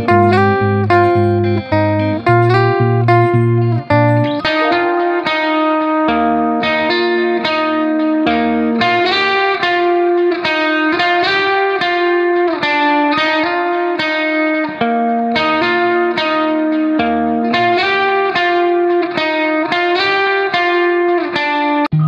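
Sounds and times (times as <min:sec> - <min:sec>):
plucked-string melody: 0:00.0 - 0:22.0.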